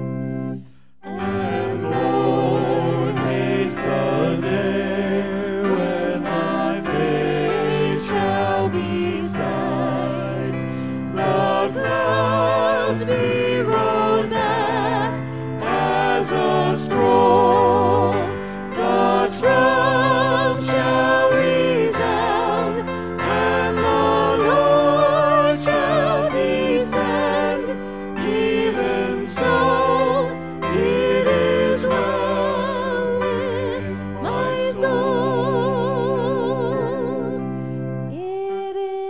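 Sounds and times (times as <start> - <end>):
instrumental accompaniment: 0.0 - 38.5
person singing with vibrato: 0.7 - 39.0.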